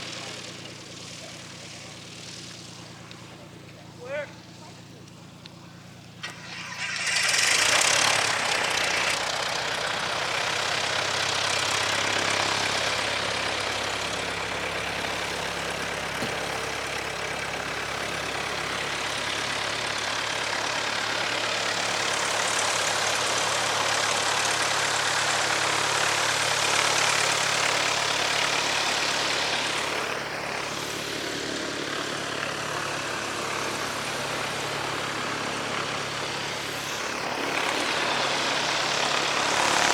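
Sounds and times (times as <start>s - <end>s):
propeller airplane engine running: 0.0s - 39.9s
propeller rush: 0.0s - 39.9s.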